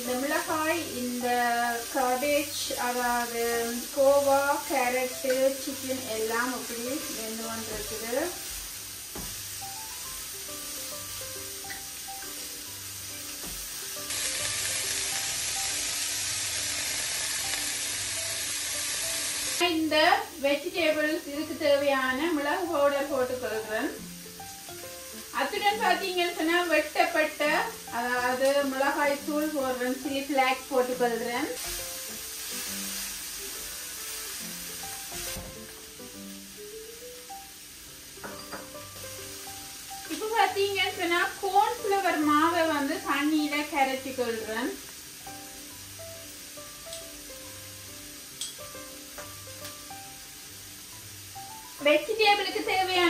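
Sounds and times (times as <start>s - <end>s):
soft background music: 0.0s - 53.0s
vegetables sizzling in a wok: 0.0s - 53.0s.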